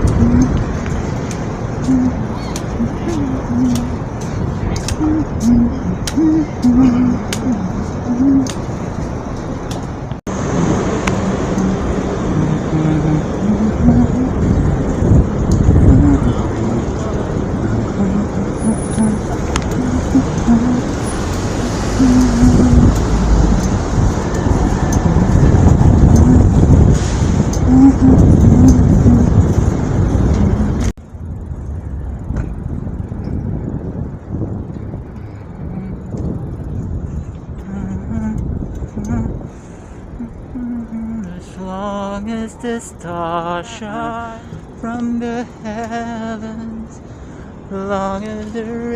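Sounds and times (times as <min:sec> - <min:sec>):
passing car engines: 0:00.0 - 0:48.9
road noise rush: 0:00.0 - 0:48.9
street and traffic noise: 0:00.0 - 0:48.9.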